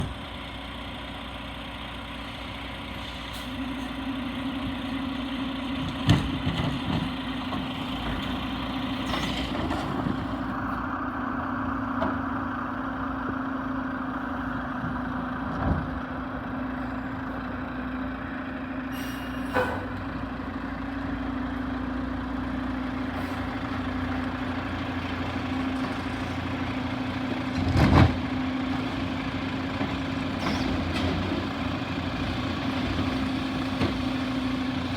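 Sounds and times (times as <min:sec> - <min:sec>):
garbage truck diesel engine: 0:00.0 - 0:34.9.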